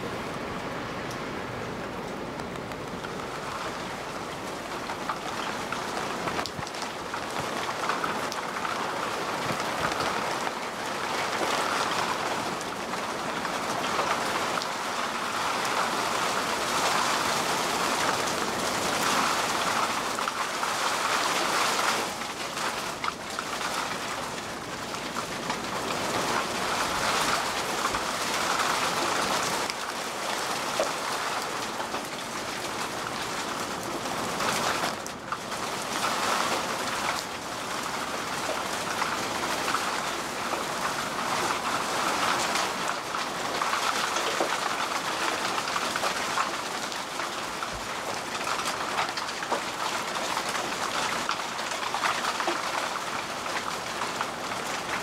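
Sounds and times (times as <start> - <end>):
heavy rain on street and puddles: 0.0 - 55.0.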